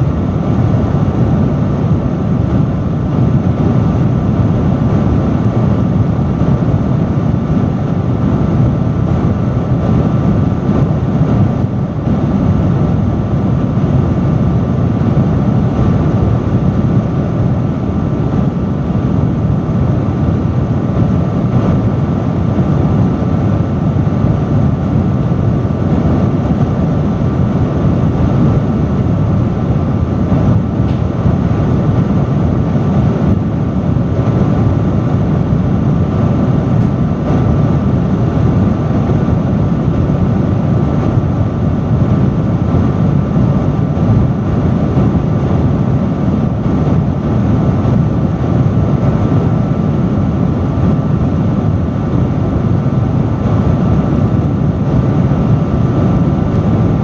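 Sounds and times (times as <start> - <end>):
fan motor hum: 0.0 - 57.0
industrial fan airflow rushing: 0.0 - 57.0.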